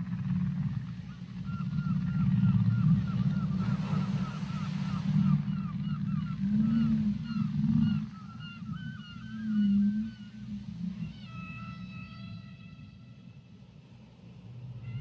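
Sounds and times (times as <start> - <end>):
whale low moans: 0.0 - 13.6, 14.6 - 15.0.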